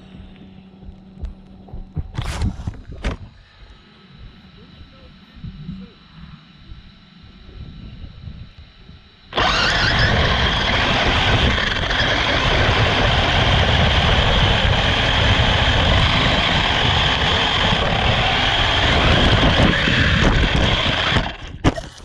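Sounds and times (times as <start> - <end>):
wind and ground noise rumble: 0.0 - 3.5, 4.2 - 22.0
high motor whine: 0.0 - 22.0.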